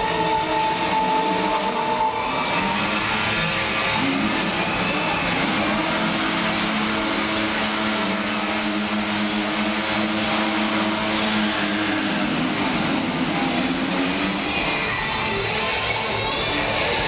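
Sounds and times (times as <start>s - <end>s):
engine running at high revs: 0.0s - 17.0s.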